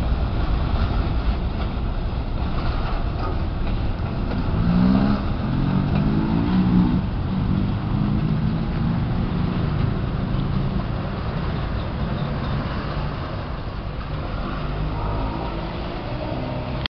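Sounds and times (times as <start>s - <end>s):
tyres hissing on wet road: 0.0s - 16.9s
engines revving pulling away: 2.4s - 16.9s.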